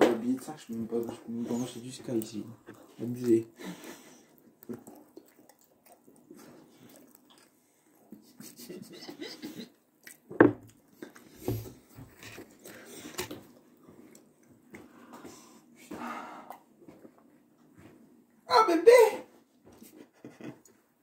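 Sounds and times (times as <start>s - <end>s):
faint scattered small noises: 0.0s - 21.0s.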